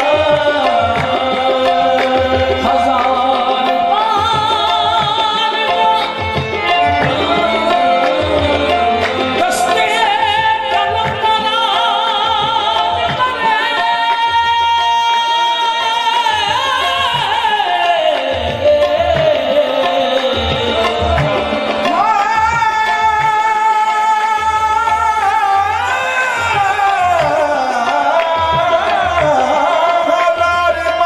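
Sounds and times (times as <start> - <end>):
harmonium: 0.0 - 31.0
men singing: 0.0 - 31.0
tabla rhythm: 0.0 - 31.0.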